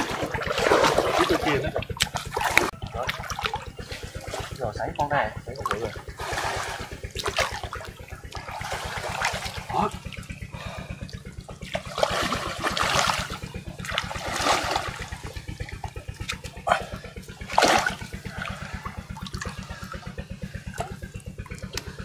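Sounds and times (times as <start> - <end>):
water splashing and dripping: 0.0 - 16.6, 17.3 - 22.0
fast low throbbing: 0.0 - 22.0.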